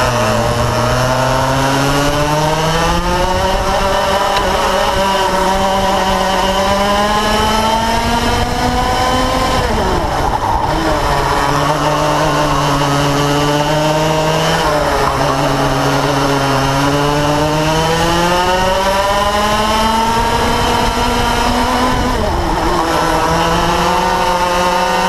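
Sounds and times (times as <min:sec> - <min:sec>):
kart engine revving: 0:00.0 - 0:25.0.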